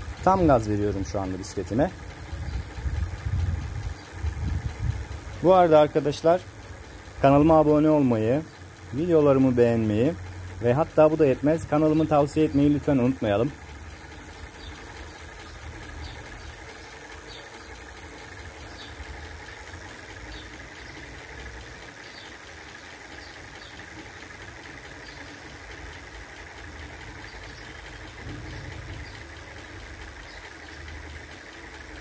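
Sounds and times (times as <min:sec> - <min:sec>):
bike vibrating on stand: 0:00.0 - 0:32.0
electric motor humming: 0:00.0 - 0:32.0.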